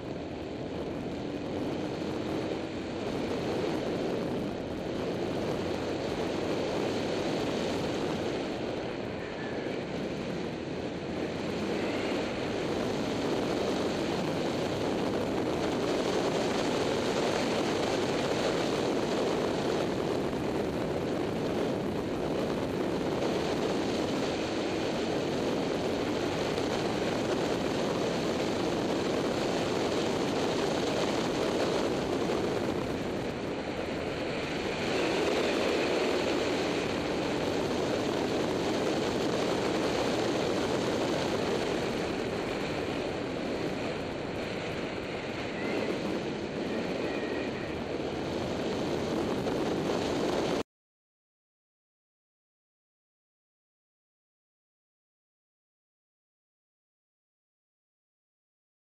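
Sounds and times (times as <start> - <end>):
motorcycle engine roar: 0.0 - 50.6
wind noise: 0.0 - 50.6.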